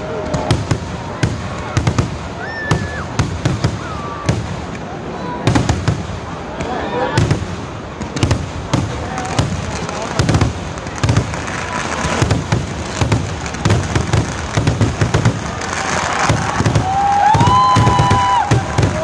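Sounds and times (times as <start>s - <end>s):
deep fireworks booms: 0.0s - 19.0s
fireworks bangs and crackle: 0.0s - 19.0s.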